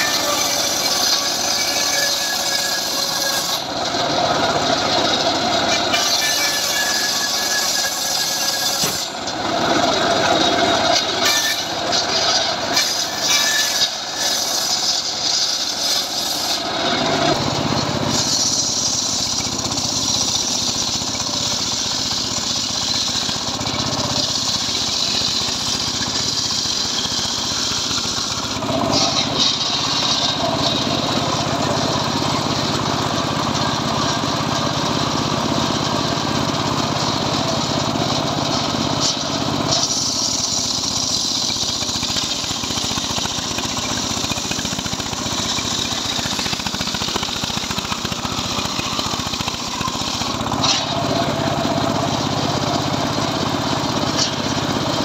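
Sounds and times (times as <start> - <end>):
engine-driven circular saw cutting wood: 0.0 - 55.0.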